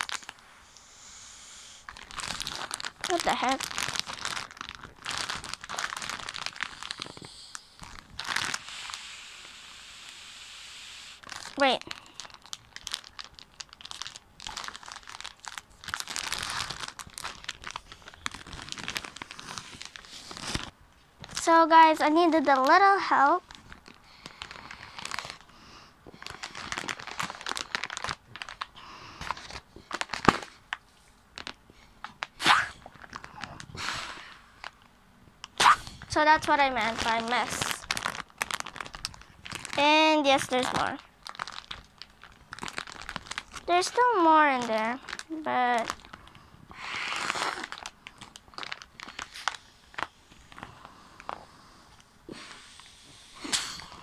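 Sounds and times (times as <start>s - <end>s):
plastic packaging crinkling: 0.0s - 0.4s, 1.9s - 9.6s, 11.2s - 34.9s, 35.5s - 51.4s.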